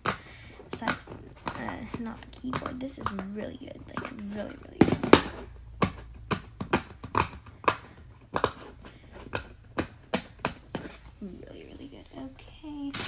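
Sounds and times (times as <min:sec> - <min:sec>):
plastic fidget toy popping: 0:00.0 - 0:11.0.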